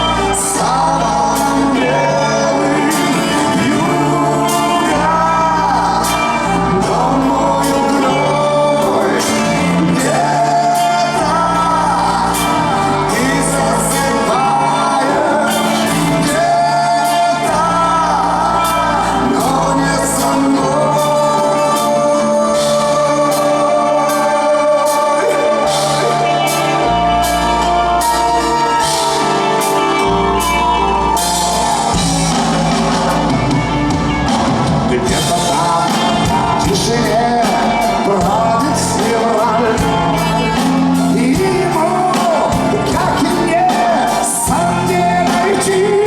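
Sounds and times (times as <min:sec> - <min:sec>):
live band playing: 0:00.0 - 0:46.0
person singing: 0:00.0 - 0:46.0.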